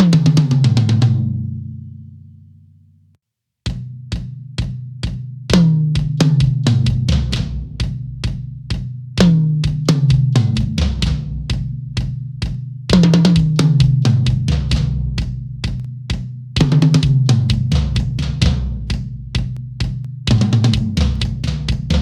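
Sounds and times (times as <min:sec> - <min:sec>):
light drum strokes: 0:03.7 - 0:22.0.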